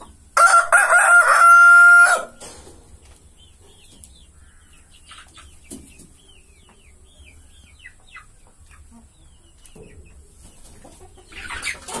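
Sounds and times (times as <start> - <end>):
chickens peeping: 0.0 - 12.0.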